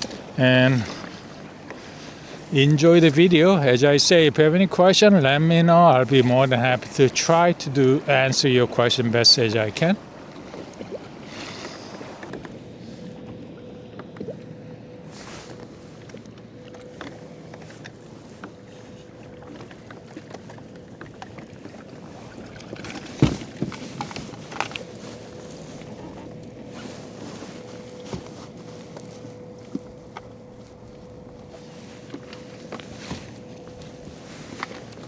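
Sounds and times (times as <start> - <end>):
faint steady hum: 0.0 - 35.0
water against kayak hull: 0.0 - 35.0.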